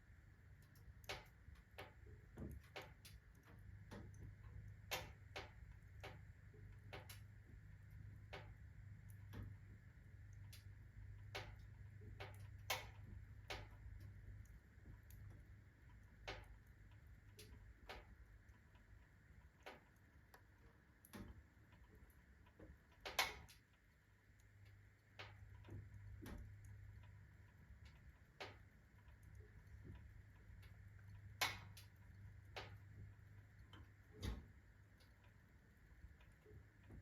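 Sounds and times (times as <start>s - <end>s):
stove metal ticking and clicking: 0.0s - 37.0s.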